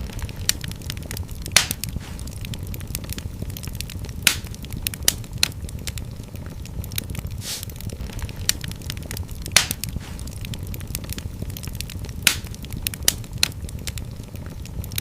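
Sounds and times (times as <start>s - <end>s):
fire crackling: 0.0s - 15.0s
low rumble of flames: 0.0s - 15.0s
sharp fire pops: 0.0s - 15.0s.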